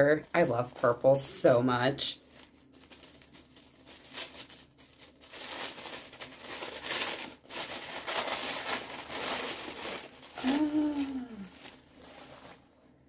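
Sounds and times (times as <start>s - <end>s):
tissue paper rustling and tearing: 2.0s - 12.8s.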